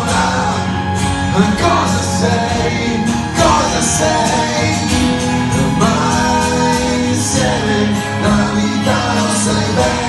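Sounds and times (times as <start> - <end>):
acoustic guitars: 0.0 - 10.0
man singing: 0.0 - 10.0
percussion: 0.0 - 10.0.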